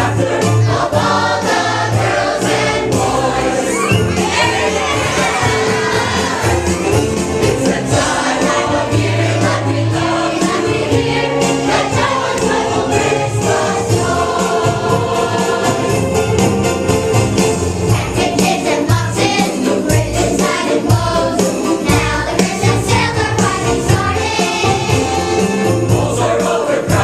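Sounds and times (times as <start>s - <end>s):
choir singing: 0.0s - 27.0s
instrumental accompaniment: 0.0s - 27.0s.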